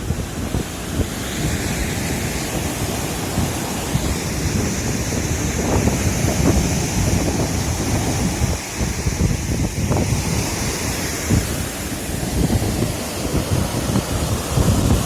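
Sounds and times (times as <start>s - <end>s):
sea surf washing on shore: 0.0s - 15.0s
wind buffeting microphone: 0.0s - 15.0s.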